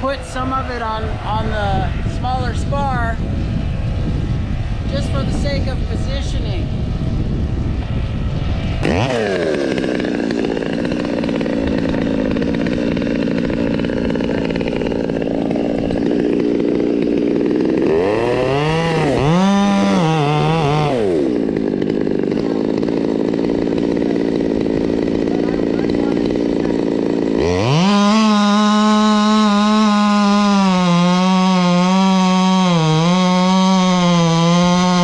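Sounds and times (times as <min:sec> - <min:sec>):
chainsaw idling and revving: 0:00.0 - 0:35.0.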